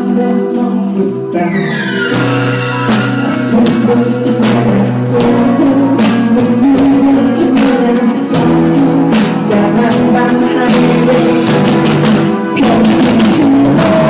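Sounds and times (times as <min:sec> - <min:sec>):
guitar: 0:00.0 - 0:14.0
live band playing: 0:00.0 - 0:14.0
person singing: 0:00.0 - 0:14.0.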